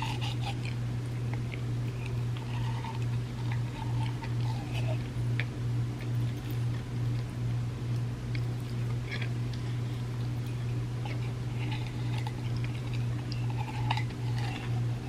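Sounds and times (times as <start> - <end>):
chewing crunchy cookies: 0.0 - 15.0
steady low hum: 0.0 - 15.0.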